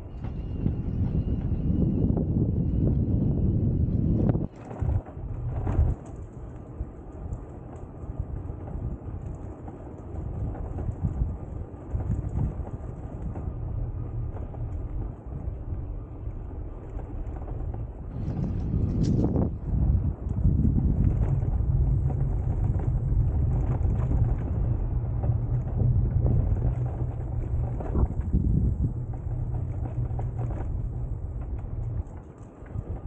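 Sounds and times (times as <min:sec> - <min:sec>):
wind buffeting microphone: 0:00.0 - 0:33.0
moving bicycle: 0:04.2 - 0:33.0.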